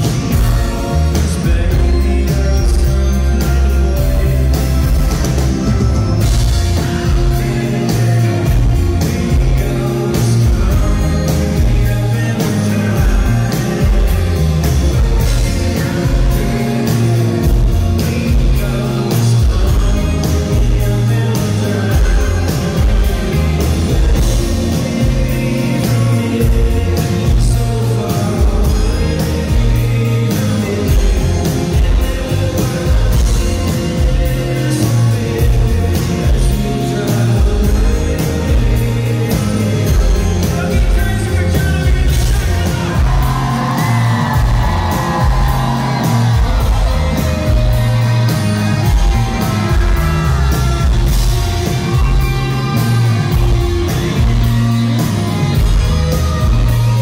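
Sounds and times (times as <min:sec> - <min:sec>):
lead vocal singing: 0:00.0 - 0:57.0
live rock band playing: 0:00.0 - 0:57.0.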